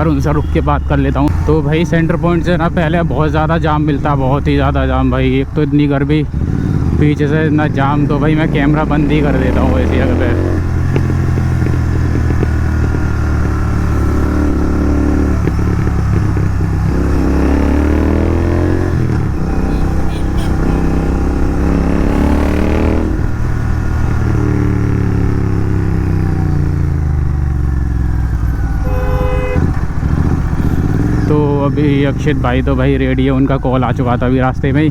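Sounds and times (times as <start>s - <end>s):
motorcycle engine accelerating: 1.3s - 34.9s.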